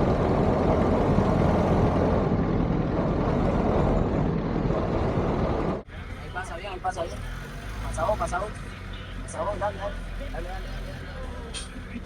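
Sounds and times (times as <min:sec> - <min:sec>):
vehicle rumble and road noise: 0:00.0 - 0:12.0.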